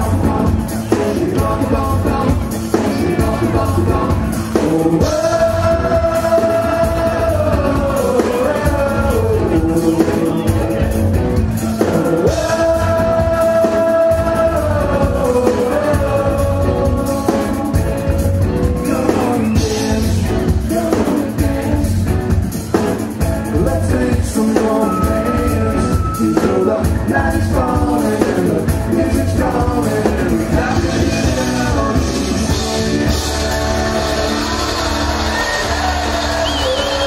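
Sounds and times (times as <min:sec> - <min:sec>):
drum kit: 0:00.0 - 0:37.0
electric guitars: 0:00.0 - 0:37.0
voices singing together: 0:00.0 - 0:37.0.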